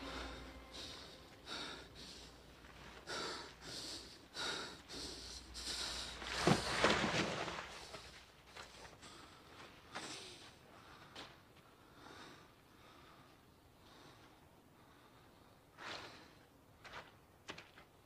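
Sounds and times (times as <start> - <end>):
man breathing heavily: 0.0 - 6.9, 7.7 - 16.5.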